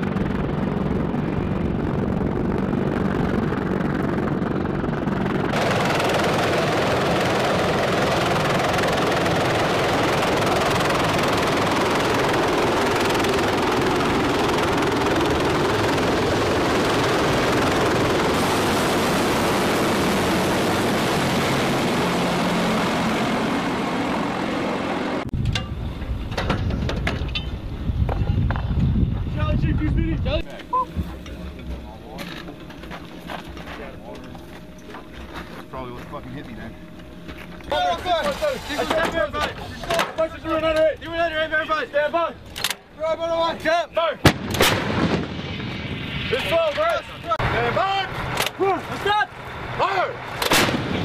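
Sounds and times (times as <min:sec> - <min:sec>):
helicopter rotor and turbine noise: 0:00.0 - 0:51.0.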